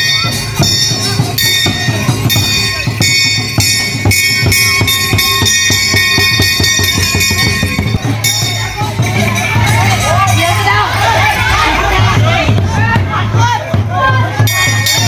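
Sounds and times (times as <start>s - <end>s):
fast steady beat of struck notes: 0.0s - 15.0s.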